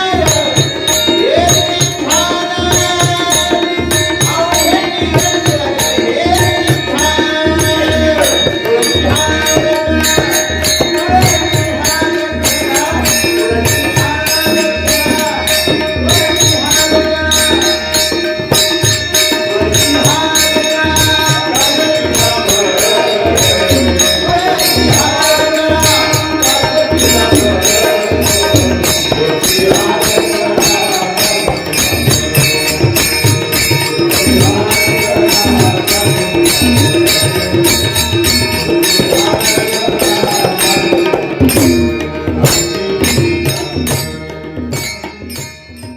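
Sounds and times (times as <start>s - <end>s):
jingling beat: 0.0s - 45.9s
man singing: 0.0s - 45.9s
tabla: 0.0s - 45.9s.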